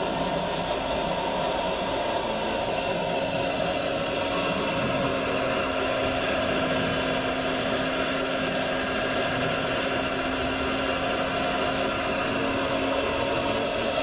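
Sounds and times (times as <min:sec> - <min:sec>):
electric motors whirring: 0:00.0 - 0:14.0.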